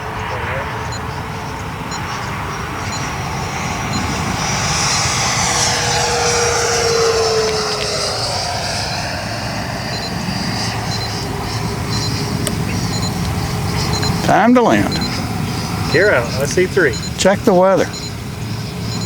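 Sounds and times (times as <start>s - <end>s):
model airplane whine flying past: 0.0s - 19.0s.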